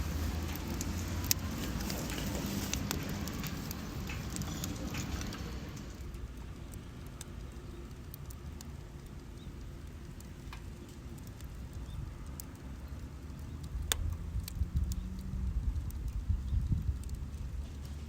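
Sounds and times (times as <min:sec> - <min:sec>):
low steady rumble: 0:00.0 - 0:18.0
wood fire crackling and popping: 0:00.0 - 0:18.0.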